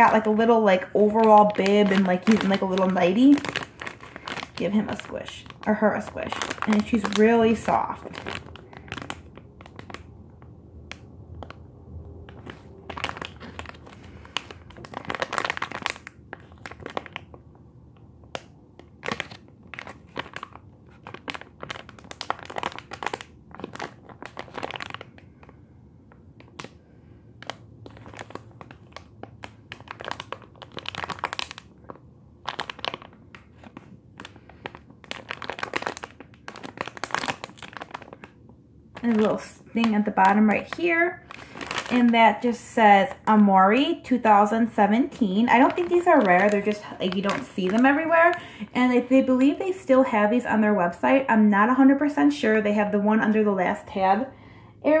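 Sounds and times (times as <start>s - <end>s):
plastic packaging crinkling: 0.0s - 50.0s.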